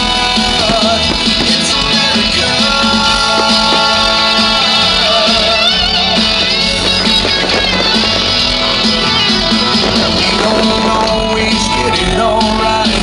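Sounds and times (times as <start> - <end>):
country-rock song: 0.0 - 13.0
electric guitar melody: 0.0 - 13.0.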